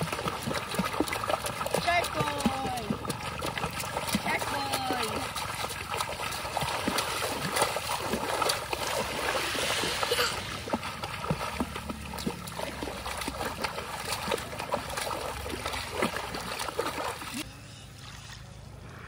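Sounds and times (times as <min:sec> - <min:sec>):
water splashing and trickling: 0:00.0 - 0:18.8.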